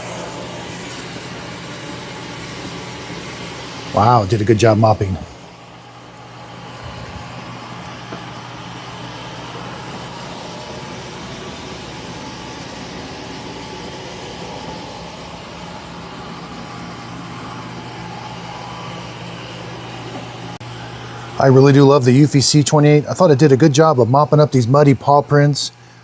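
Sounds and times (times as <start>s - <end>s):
robot vacuum fan whir: 0.0s - 26.0s.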